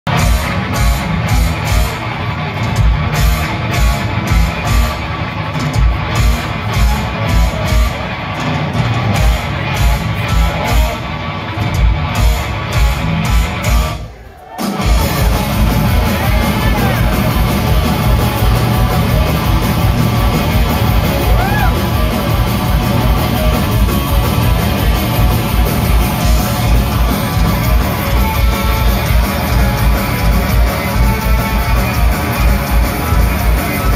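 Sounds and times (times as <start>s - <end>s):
distorted electric guitars: 0.1s - 33.9s.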